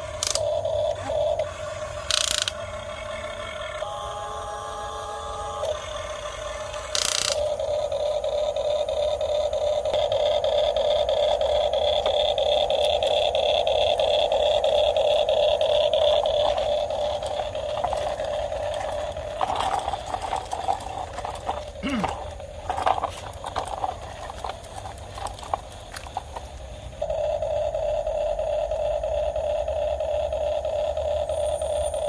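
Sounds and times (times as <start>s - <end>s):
toy excavator motor whine: 0.0s - 32.0s.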